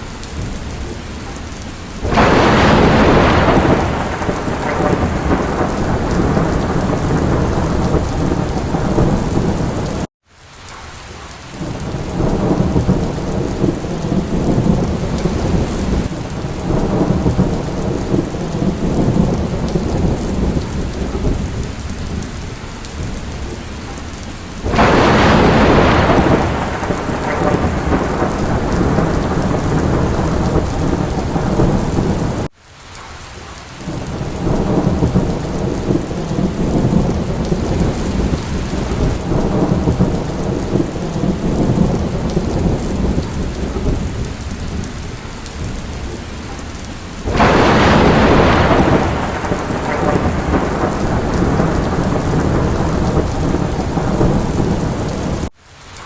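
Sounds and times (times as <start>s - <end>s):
heavy rain: 0.0s - 56.0s
thunderclap rumbling: 2.0s - 10.1s, 11.6s - 32.5s, 33.9s - 55.5s.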